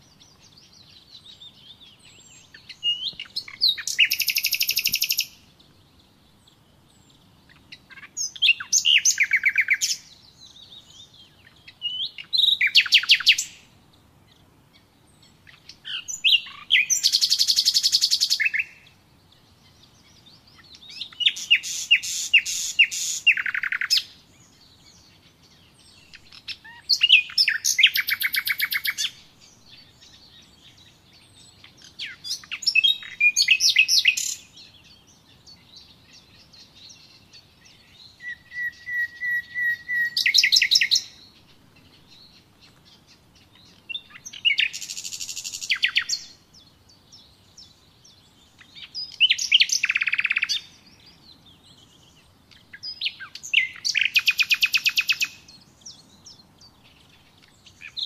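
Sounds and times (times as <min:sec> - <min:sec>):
songbird trilling: 0:00.0 - 0:05.5, 0:06.5 - 0:13.7, 0:14.8 - 0:58.0.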